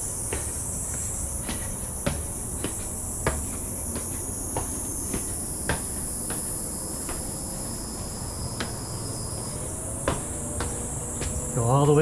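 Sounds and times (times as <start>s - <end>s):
insects droning: 0.0s - 12.0s
sharp taps of footsteps: 0.0s - 12.0s.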